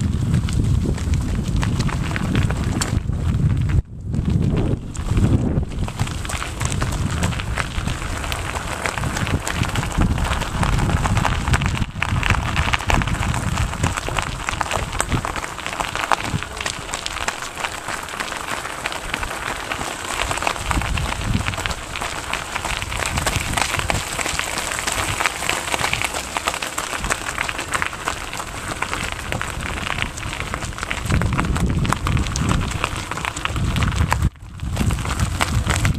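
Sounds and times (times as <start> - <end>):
handling noise crackle: 0.0 - 35.9
wind buffeting microphone: 0.0 - 35.9.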